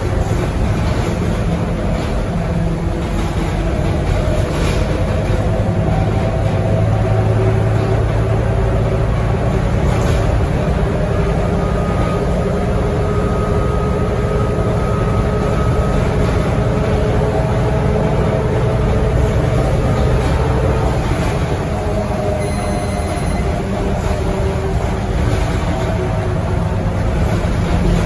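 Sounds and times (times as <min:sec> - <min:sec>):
bus diesel engine droning: 0:00.0 - 0:28.0.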